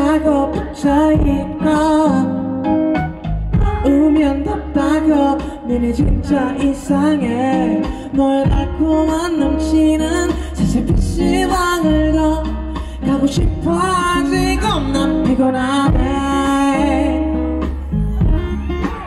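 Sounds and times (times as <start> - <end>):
man singing into a microphone: 0.0 - 2.9, 3.6 - 19.0
band accompaniment: 0.0 - 19.0
steady bass line: 0.0 - 19.0.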